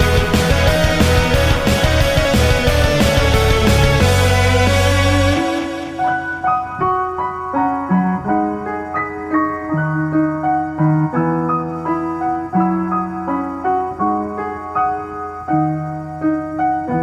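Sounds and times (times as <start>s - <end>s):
gentle piano tune: 0.0s - 17.0s.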